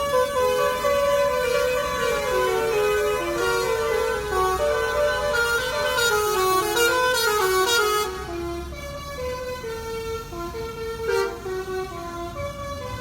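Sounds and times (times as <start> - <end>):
multi-tone bus air horn tune: 0.0 - 13.0.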